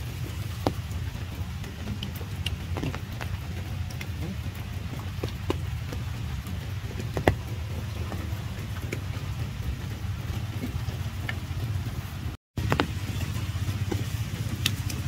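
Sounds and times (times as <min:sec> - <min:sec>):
rain falling on puddles: 0:00.0 - 0:15.0.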